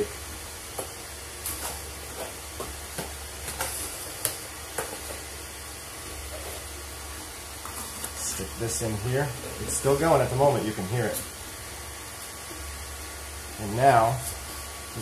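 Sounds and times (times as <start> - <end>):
printer low hum: 0.0 - 15.0.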